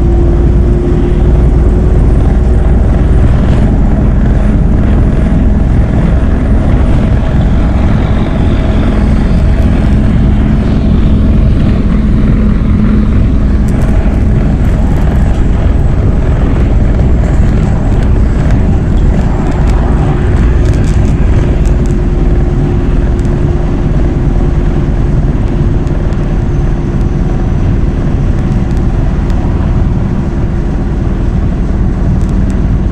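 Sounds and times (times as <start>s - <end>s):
bus diesel engine drone: 0.0s - 32.9s
road rumble: 0.0s - 32.9s.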